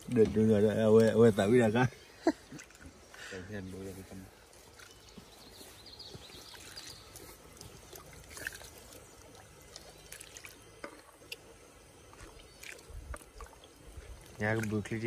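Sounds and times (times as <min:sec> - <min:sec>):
faint trickling water: 0:00.0 - 0:15.0.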